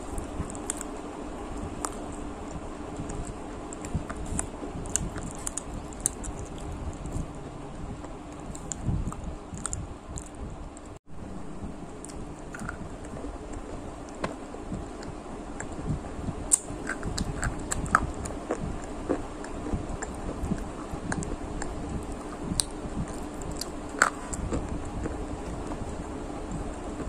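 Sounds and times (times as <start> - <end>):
chewing crispy food: 0.0 - 1.0, 1.6 - 11.0, 11.8 - 27.0.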